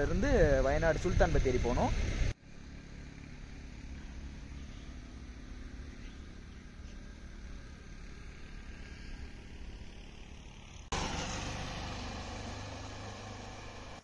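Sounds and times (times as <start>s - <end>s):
motorcycle engine running: 0.2s - 14.0s.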